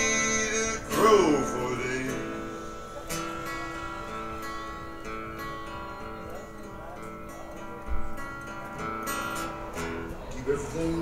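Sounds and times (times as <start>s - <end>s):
guitar strummed and picked: 0.0s - 11.0s.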